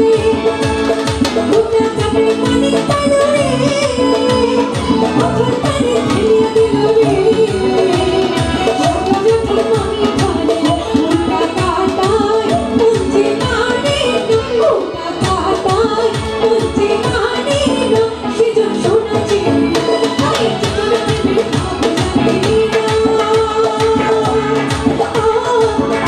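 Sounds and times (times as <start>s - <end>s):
band with keyboard and guitar: 0.0s - 26.0s
percussion quick beat: 0.0s - 26.0s
woman singing into a microphone: 0.0s - 26.0s.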